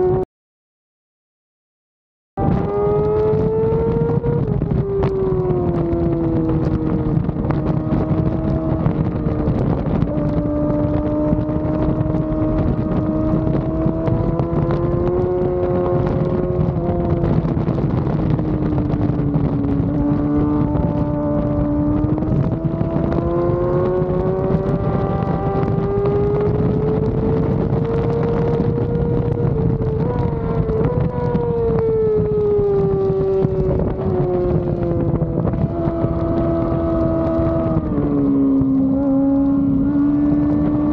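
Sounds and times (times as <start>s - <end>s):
motorcycle engine revving hard: 2.4s - 40.9s
wind buffeting microphone: 2.4s - 40.9s.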